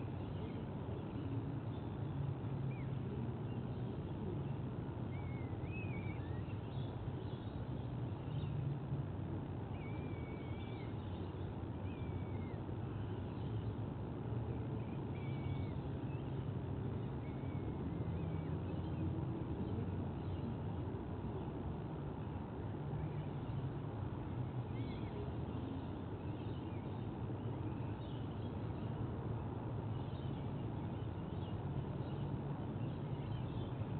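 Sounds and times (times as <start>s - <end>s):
faint bird chirping: 0.0s - 8.9s, 9.6s - 33.9s.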